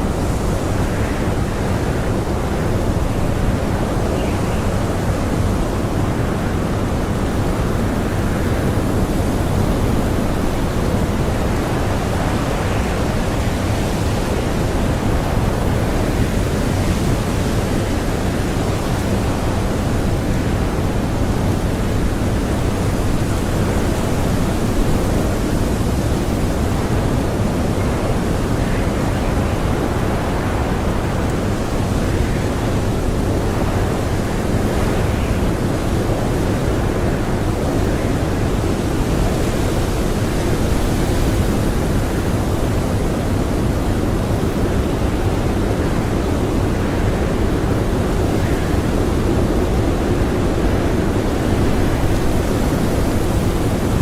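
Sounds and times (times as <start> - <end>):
strong blizzard wind: 0.0 - 54.0.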